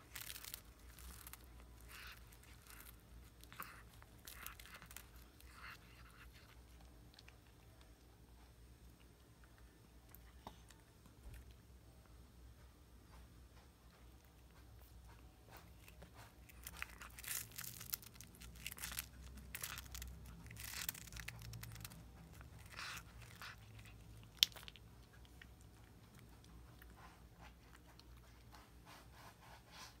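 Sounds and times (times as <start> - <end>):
cat crunching fish: 0.0 - 11.5, 14.0 - 28.6.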